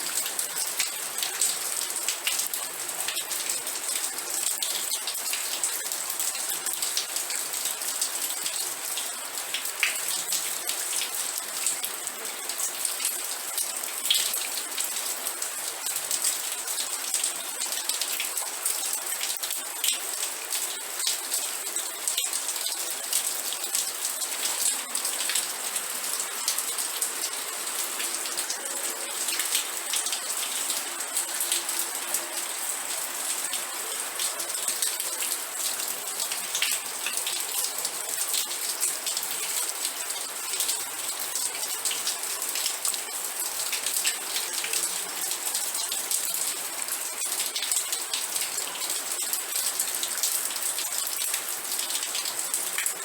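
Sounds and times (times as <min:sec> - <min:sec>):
rain pattering on hard surface: 0:00.0 - 0:53.0.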